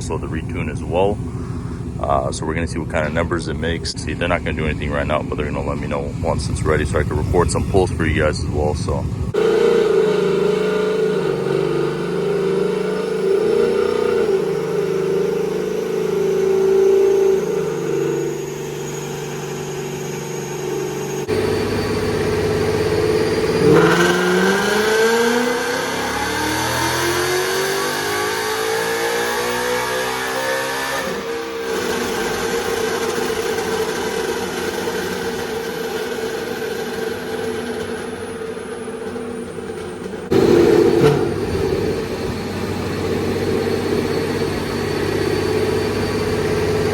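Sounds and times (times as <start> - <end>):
car engine revving: 0.0 - 46.9
engine droning: 0.0 - 46.9.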